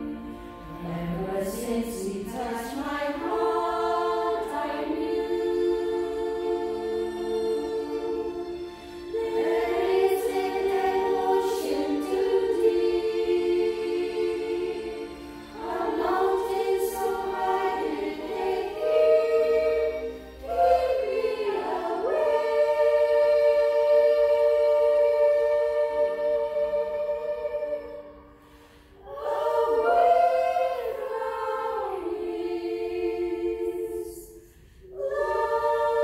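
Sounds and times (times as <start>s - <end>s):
choir singing slow chords: 0.0s - 36.0s.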